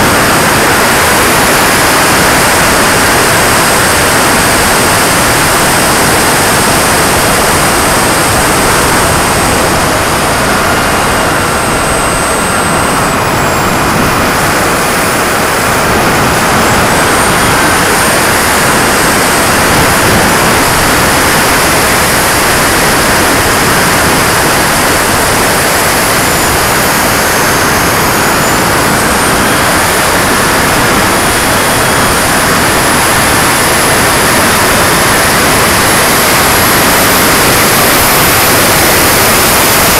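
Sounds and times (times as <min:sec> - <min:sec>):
high turbine whine: 0:00.0 - 0:39.9
rush of airflow and exhaust: 0:00.0 - 0:39.9.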